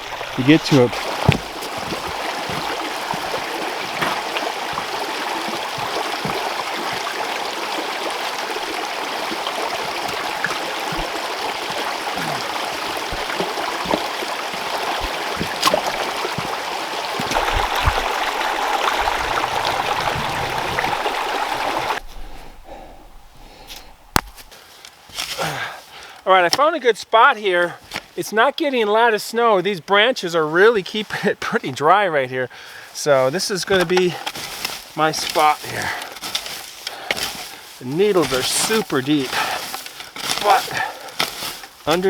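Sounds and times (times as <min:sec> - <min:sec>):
creek water flowing: 0:00.0 - 0:25.3, 0:32.5 - 0:42.0.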